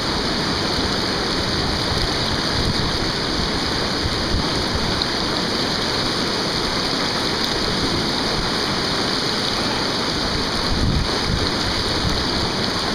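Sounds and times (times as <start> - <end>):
river rapid roaring: 0.0 - 12.9.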